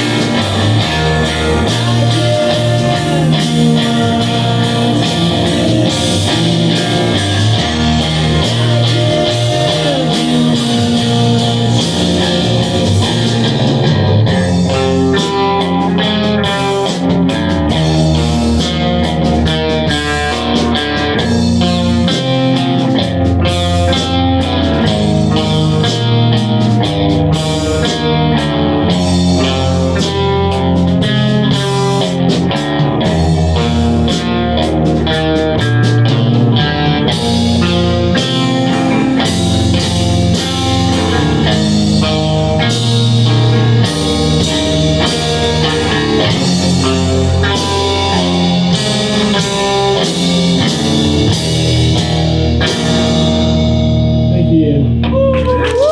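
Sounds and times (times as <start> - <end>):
drum kit beat: 0.0 - 55.9
electric guitar: 0.0 - 55.9.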